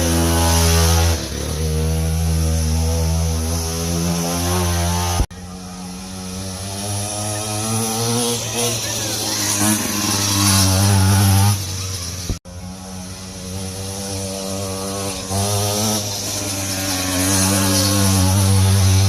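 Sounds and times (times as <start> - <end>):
two-stroke dirt bike engine revving: 0.0 - 19.0.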